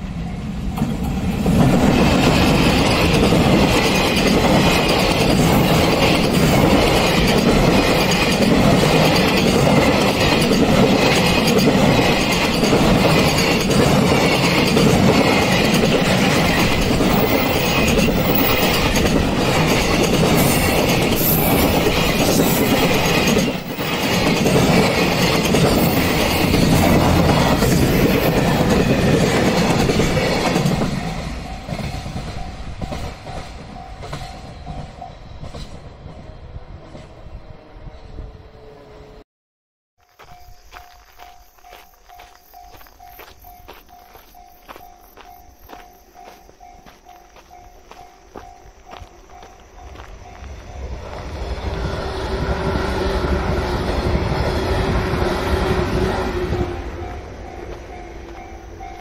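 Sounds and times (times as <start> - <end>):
freight train passing: 0.0 - 39.2, 40.1 - 59.0
train wheels clattering on rails: 0.6 - 36.3, 40.2 - 59.0.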